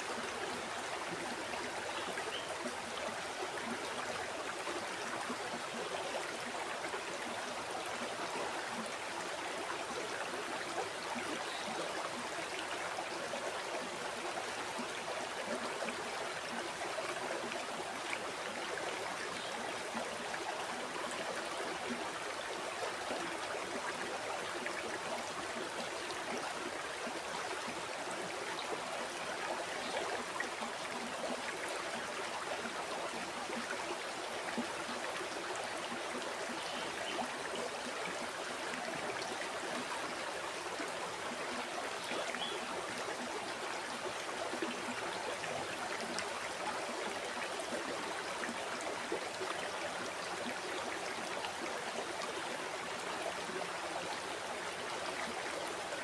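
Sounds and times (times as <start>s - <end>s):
river flowing and babbling: 0.0s - 56.0s.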